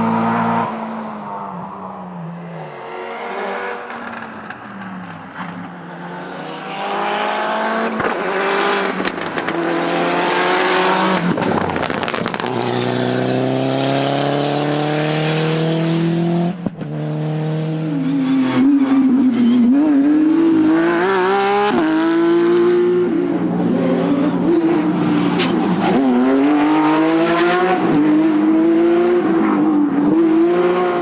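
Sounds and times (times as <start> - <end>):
rally car engine accelerating: 0.0 - 31.0.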